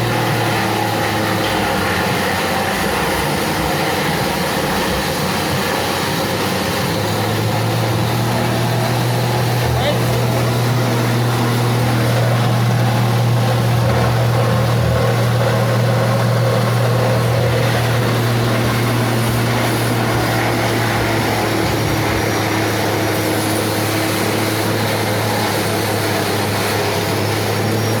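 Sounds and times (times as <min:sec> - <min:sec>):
forage chopper running: 0:00.0 - 0:28.0.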